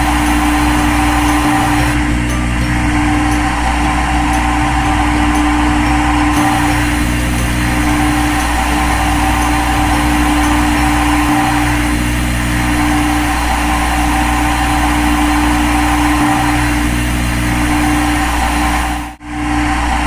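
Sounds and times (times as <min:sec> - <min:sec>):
cnc machine humming: 0:00.0 - 0:20.0.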